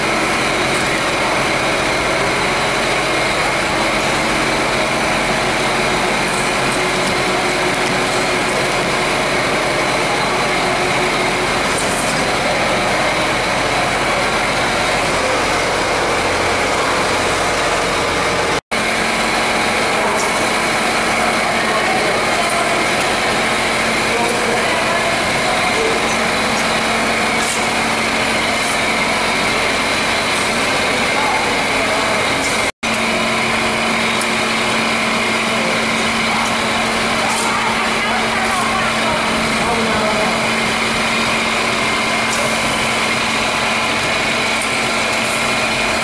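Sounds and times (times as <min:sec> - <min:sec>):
bottling machinery hum and hiss: 0:00.0 - 0:46.0.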